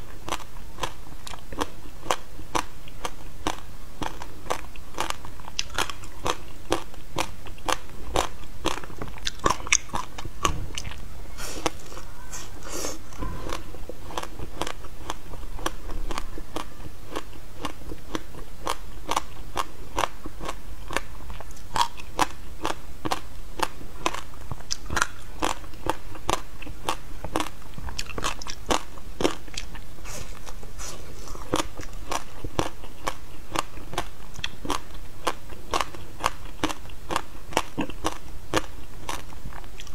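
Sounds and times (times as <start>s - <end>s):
chewing frozen fruit crunching: 0.0s - 39.9s.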